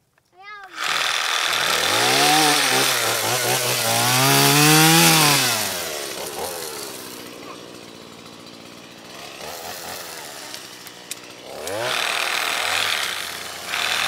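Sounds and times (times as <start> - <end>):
chainsaw revving and idling: 0.4 - 14.0.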